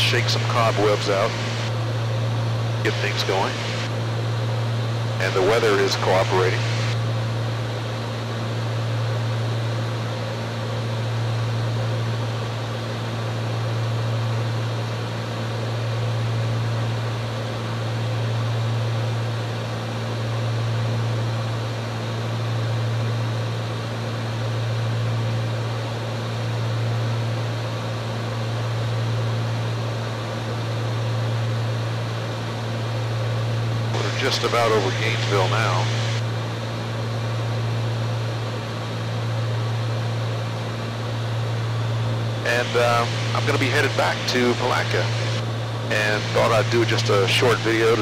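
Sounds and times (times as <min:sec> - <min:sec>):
airplane cabin engine drone: 0:00.0 - 0:48.0.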